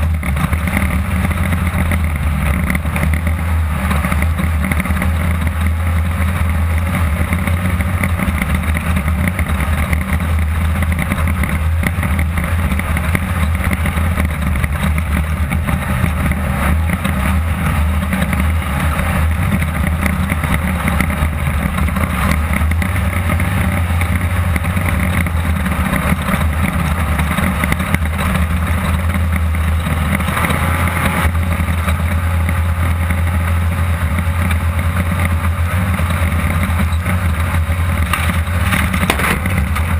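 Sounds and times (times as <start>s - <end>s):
buggy engine droning: 0.0s - 39.9s
ride noise inside car: 0.0s - 39.9s.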